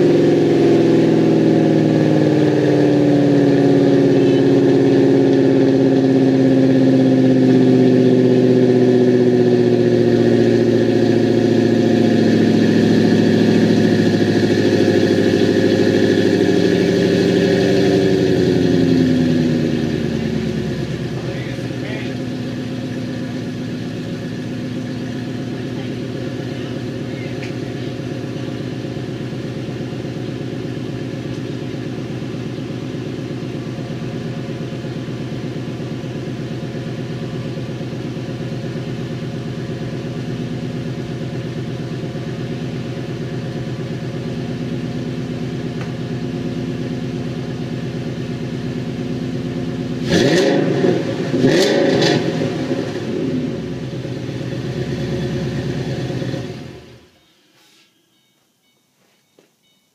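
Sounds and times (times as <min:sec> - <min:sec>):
car engine idling and revving: 0:00.0 - 0:57.3.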